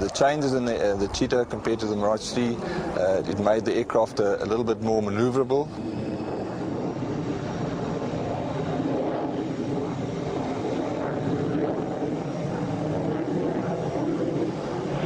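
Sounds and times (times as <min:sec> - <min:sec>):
jet fighter engine running: 0:00.0 - 0:15.0.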